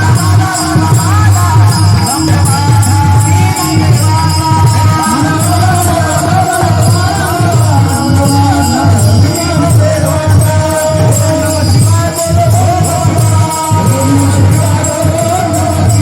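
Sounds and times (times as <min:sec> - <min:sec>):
drum beat: 0:00.0 - 0:16.0
held steady tones: 0:00.0 - 0:16.0
jingling hand cymbals: 0:00.0 - 0:16.0
person chanting a melody: 0:00.0 - 0:16.0.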